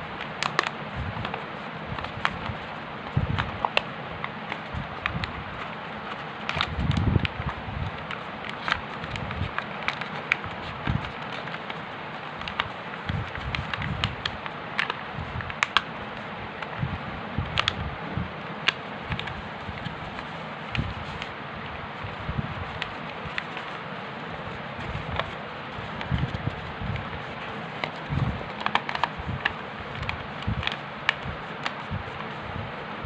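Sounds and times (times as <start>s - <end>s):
paper crinkling: 0.2s - 16.7s, 18.6s - 32.5s.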